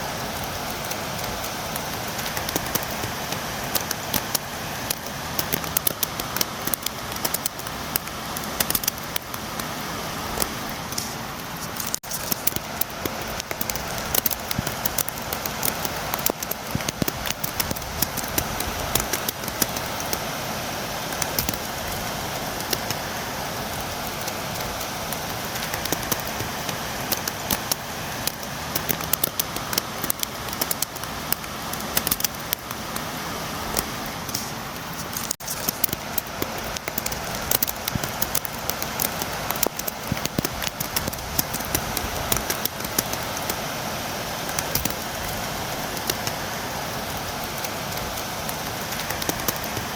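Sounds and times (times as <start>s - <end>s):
rain drops tapping on window: 0.0s - 49.9s
rain hiss: 0.0s - 49.9s.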